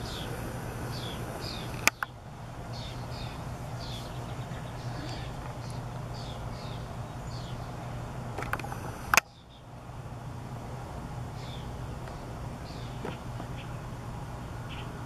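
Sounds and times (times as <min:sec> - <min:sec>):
small birds chirping: 0:00.0 - 0:10.2, 0:11.1 - 0:15.0
steady low hum: 0:00.0 - 0:15.0.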